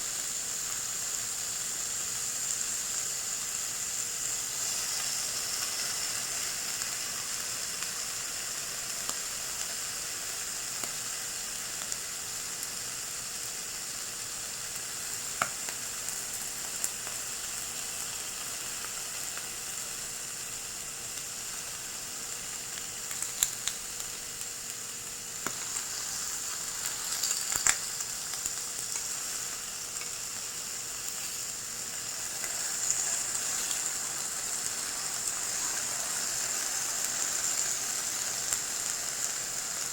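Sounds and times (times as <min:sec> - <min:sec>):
meat sizzling on a hot plate: 0:00.0 - 0:39.9.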